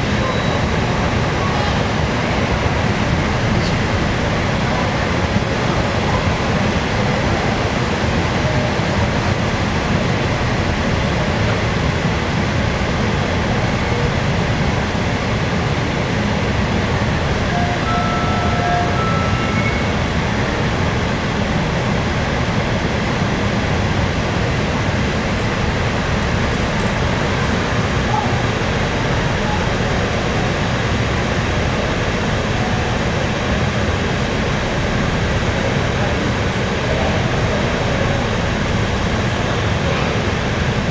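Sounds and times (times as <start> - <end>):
distant monorail train rush: 0.0 - 40.9.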